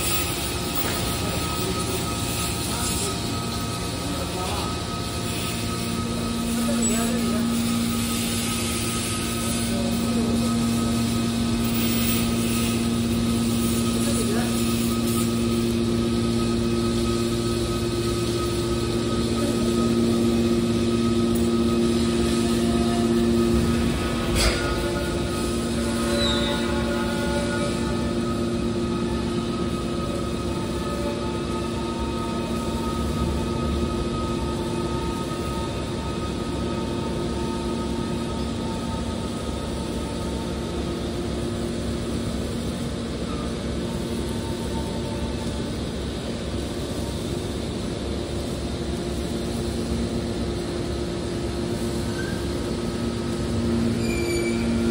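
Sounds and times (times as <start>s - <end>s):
hydraulic motor and pump hum: 0.0s - 54.9s.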